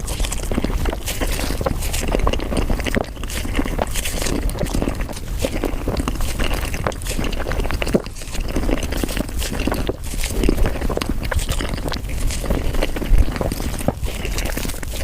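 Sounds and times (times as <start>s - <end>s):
person eating with sticky mouth clicks: 0.0s - 15.0s.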